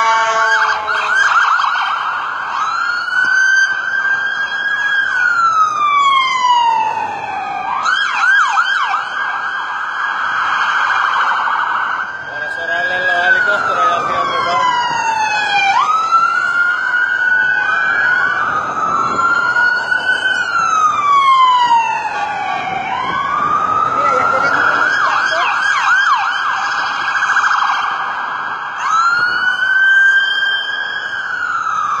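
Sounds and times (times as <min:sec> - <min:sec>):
police sirens wailing: 0:00.0 - 0:32.0
siren yelp: 0:00.0 - 0:32.0.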